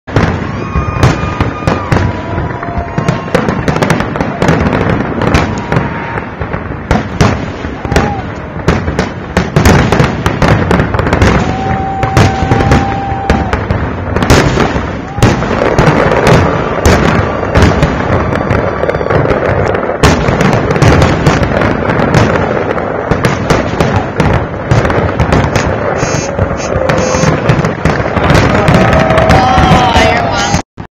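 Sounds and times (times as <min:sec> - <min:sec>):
fireworks bangs and crackles: 0:00.0 - 0:30.9
fireworks whistling: 0:00.1 - 0:30.6.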